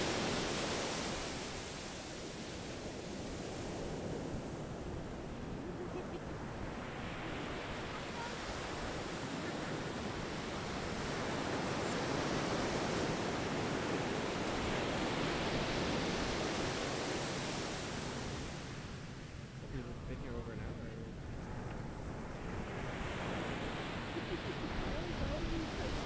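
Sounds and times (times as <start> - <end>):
surf breaking on a beach: 0.0 - 26.0.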